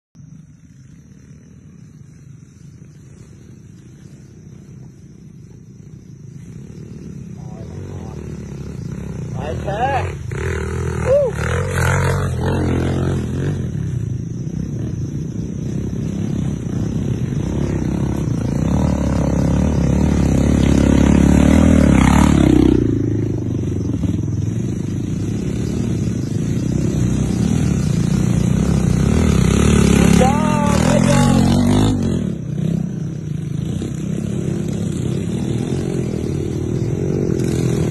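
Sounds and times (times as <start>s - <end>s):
dirt bike engines: 0.2s - 37.9s.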